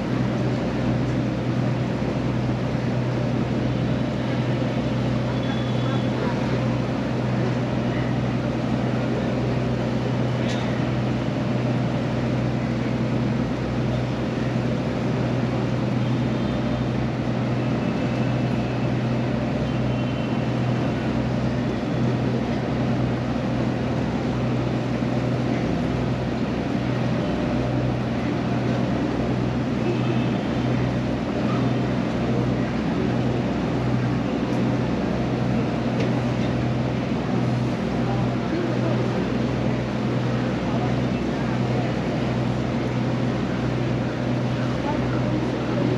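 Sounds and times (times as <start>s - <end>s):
ferry engine droning: 0.0s - 45.9s.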